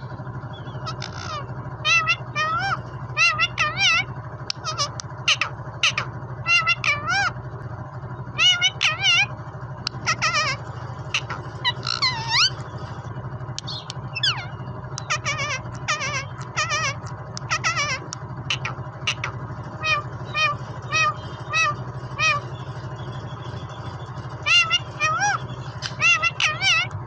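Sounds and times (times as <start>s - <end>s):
steady low hum: 0.0s - 27.0s
parakeet squawking and chirping: 0.5s - 7.4s, 8.2s - 27.0s.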